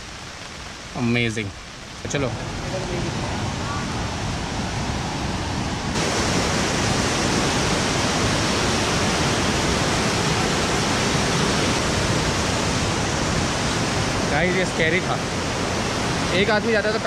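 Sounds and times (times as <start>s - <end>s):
river rushing over boulders: 0.0s - 17.0s.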